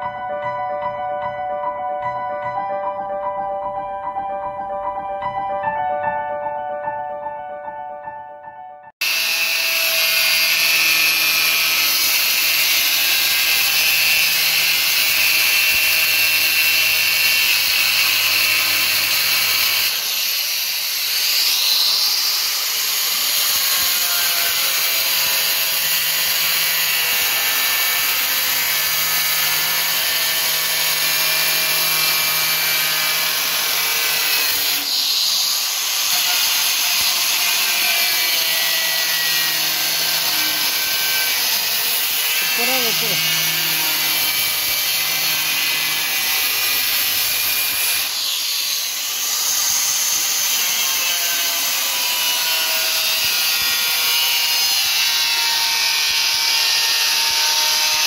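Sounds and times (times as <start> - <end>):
angle grinder cutting steel: 9.0 - 58.0.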